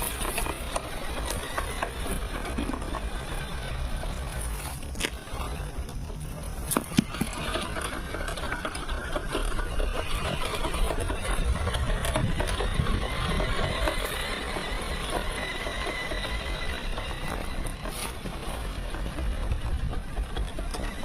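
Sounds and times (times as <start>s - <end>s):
toy car motor whirring: 0.0s - 21.0s.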